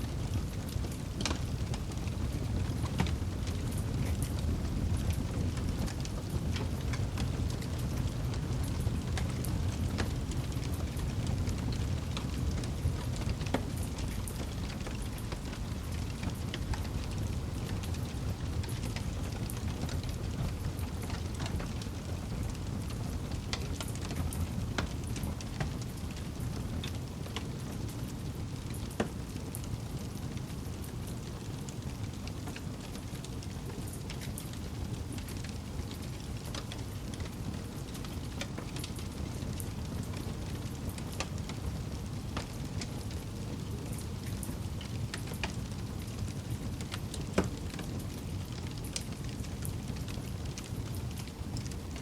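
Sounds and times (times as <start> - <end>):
fire crackling and popping: 0.0 - 52.0
campfire flames rushing: 0.1 - 52.0.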